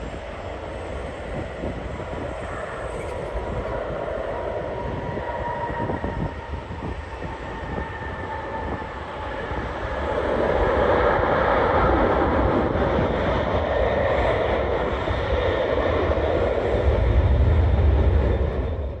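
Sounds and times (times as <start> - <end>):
jet airliner roaring: 0.0 - 19.0.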